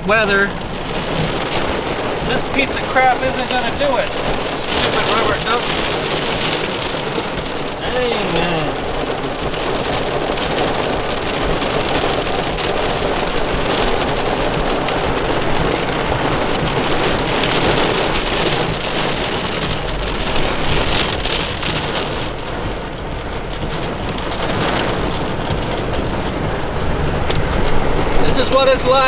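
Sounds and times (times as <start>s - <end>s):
heavy rain on car roof: 0.0s - 29.0s.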